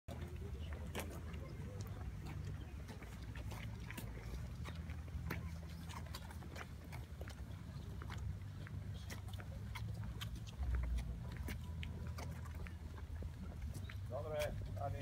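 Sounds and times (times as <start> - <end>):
footsteps on stone paving: 0.1 - 15.0.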